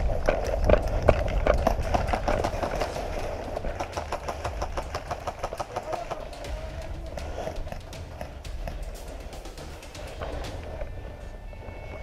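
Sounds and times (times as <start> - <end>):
gear and rifle rattling: 0.0 - 12.0.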